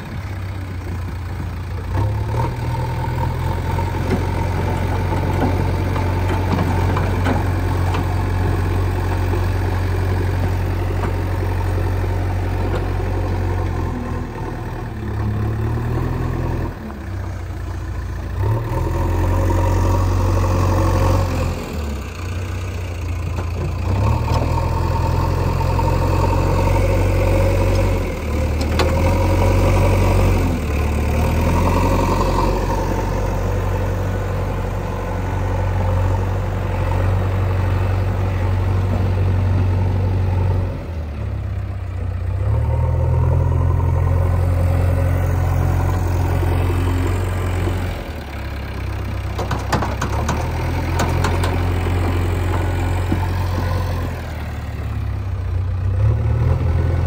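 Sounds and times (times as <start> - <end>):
diesel engine working: 0.0 - 57.0.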